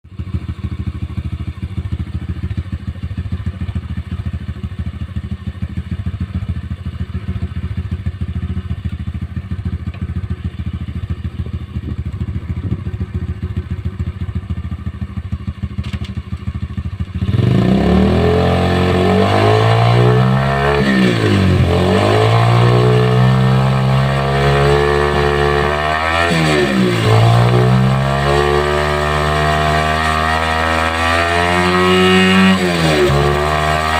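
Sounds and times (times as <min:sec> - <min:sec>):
pit bike engine revving: 0:05.7 - 0:33.9.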